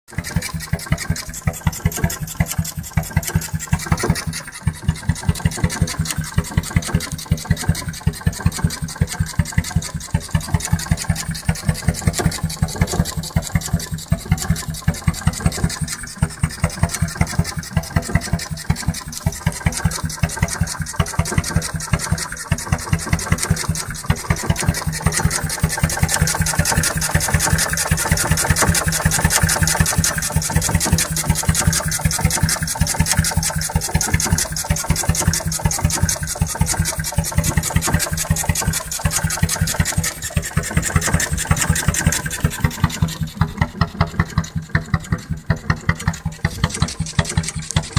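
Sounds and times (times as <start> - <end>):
marine engine knocking: 0.1 - 47.9.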